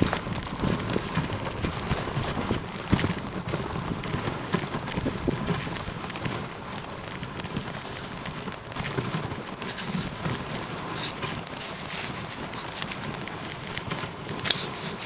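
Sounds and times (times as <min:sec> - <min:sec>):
dogs' paws pattering: 0:00.0 - 0:15.0
sled scraping over snow: 0:00.0 - 0:15.0.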